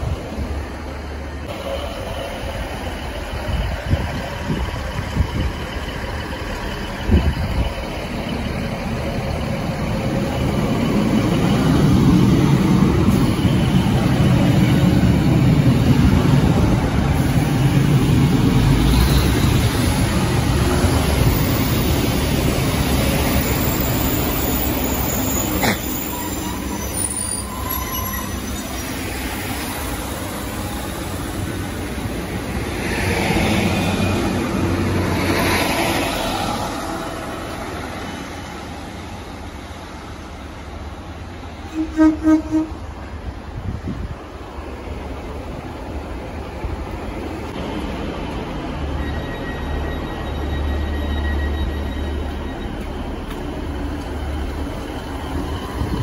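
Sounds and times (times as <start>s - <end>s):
diesel train rumbling past: 0.0s - 56.0s.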